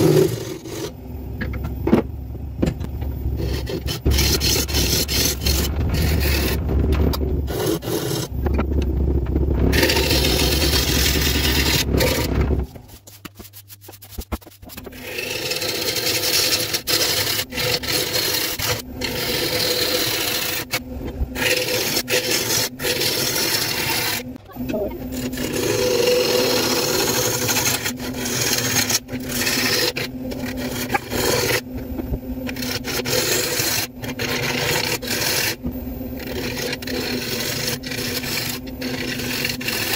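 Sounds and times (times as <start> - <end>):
turning tool scraping wood: 0.0 - 1.0, 3.3 - 39.9
lathe humming: 0.0 - 1.8, 2.4 - 12.8, 14.8 - 39.9.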